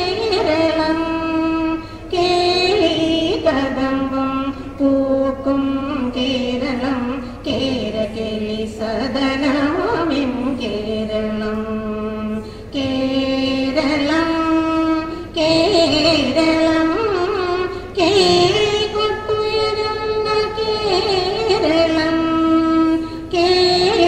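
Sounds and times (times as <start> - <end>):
girl singing: 0.0 - 24.0.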